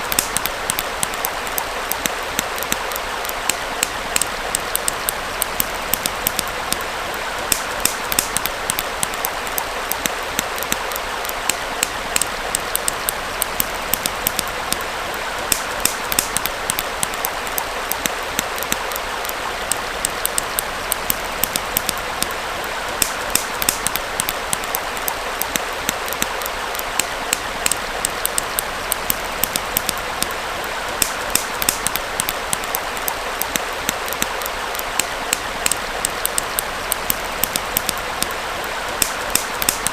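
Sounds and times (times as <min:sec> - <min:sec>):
campfire crackling and popping: 0:00.0 - 0:39.9
stream flowing: 0:00.0 - 0:39.9.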